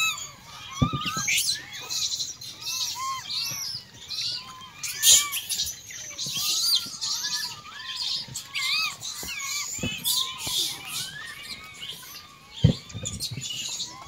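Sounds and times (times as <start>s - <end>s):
chorus of bird chirps and calls: 0.0s - 14.0s.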